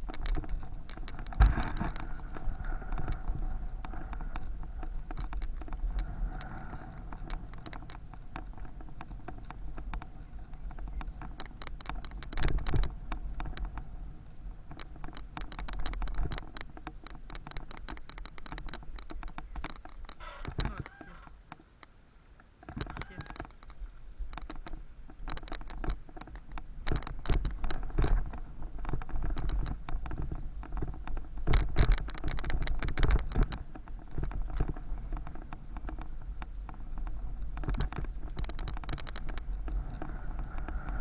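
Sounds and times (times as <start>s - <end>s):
wind rumble on microphone: 0.0s - 21.5s, 22.7s - 41.0s
bicycle rattling clicks: 0.0s - 21.9s, 22.6s - 41.0s.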